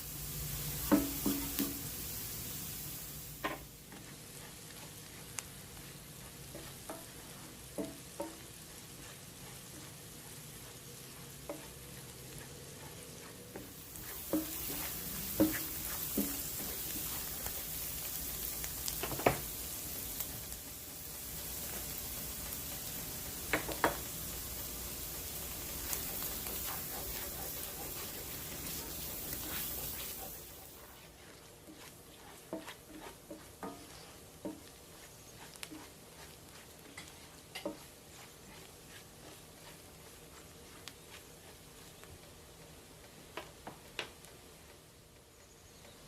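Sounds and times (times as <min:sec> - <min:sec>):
food sizzling in a pan: 0:00.0 - 0:44.8.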